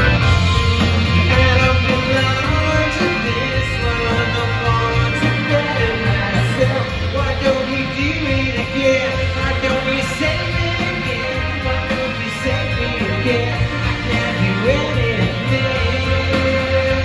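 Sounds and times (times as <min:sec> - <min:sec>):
live rock band: 0:00.0 - 0:17.0
man singing lead vocal: 0:00.0 - 0:17.0.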